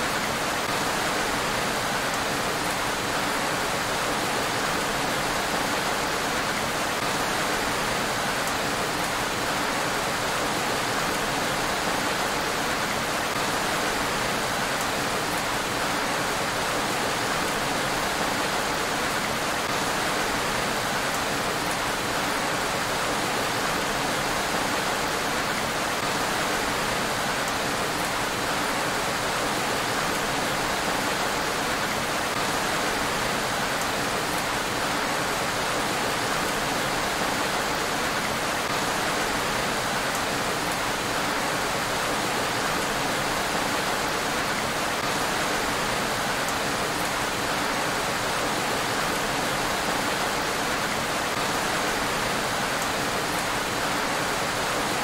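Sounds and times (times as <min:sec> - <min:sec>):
rain falling on a road: 0:00.0 - 0:55.0.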